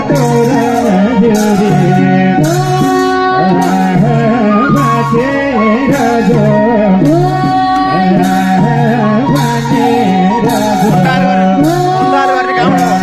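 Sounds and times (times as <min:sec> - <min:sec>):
bright percussion stroke: 0:00.0 - 0:13.0
person singing melody: 0:00.0 - 0:13.0
steady drum beat: 0:00.0 - 0:13.0.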